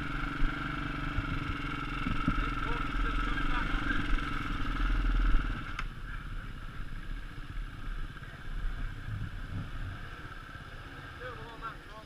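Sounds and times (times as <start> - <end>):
motorcycle engine ticking over: 0.0 - 9.8
motorcycle riding off: 0.0 - 12.0.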